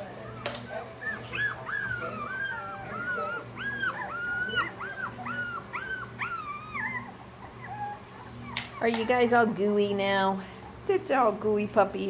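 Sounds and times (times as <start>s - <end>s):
puppy whining: 0.0s - 10.9s.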